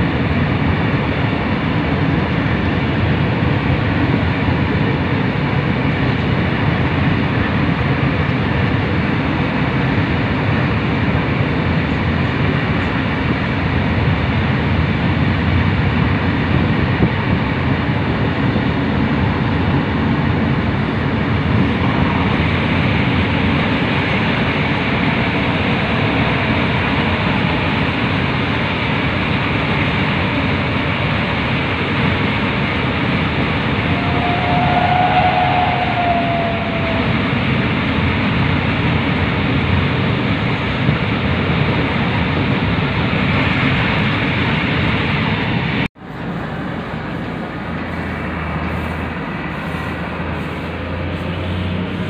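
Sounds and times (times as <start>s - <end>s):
train running noise inside carriage: 0.0s - 52.0s.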